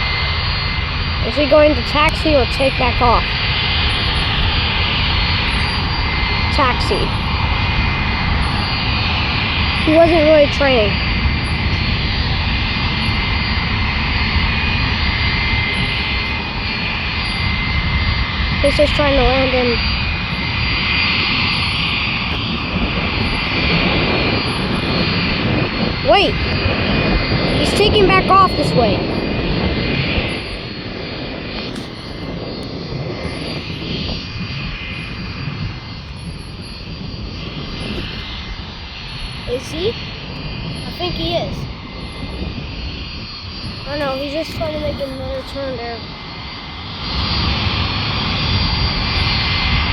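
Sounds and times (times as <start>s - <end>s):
aircraft engines rumbling: 0.0s - 49.9s
faint high whine: 0.0s - 49.9s.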